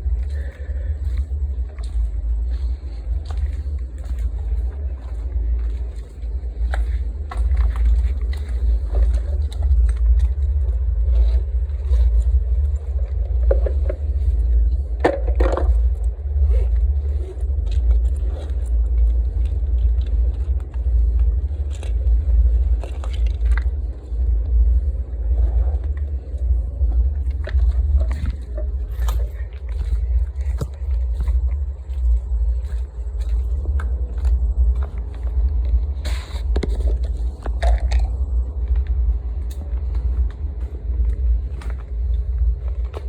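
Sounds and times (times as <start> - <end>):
wind rumble on microphone: 0.0 - 43.0.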